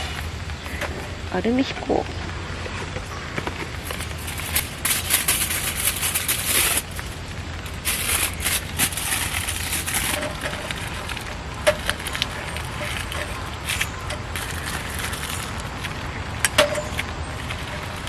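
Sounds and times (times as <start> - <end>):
aluminium foil crinkling: 3.1 - 18.0.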